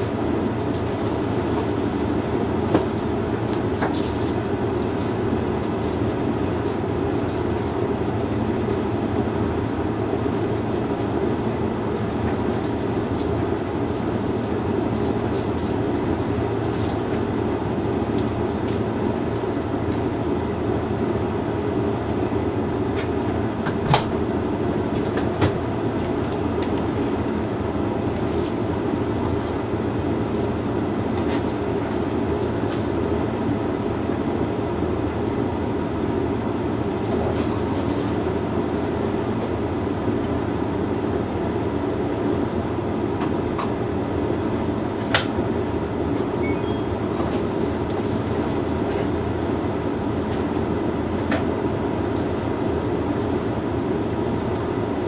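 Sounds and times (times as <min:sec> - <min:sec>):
tumble dryer drum rumbling: 0:00.0 - 0:55.0.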